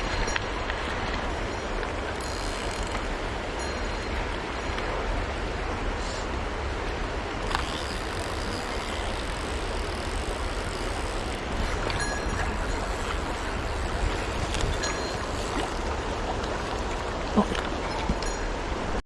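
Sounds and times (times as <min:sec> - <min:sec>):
stream rushing: 0:00.0 - 0:19.0.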